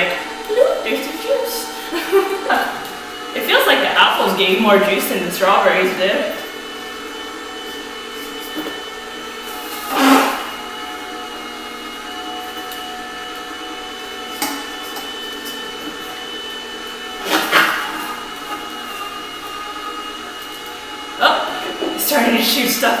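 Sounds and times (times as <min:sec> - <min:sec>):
juicer motor hum: 0:00.0 - 0:23.0.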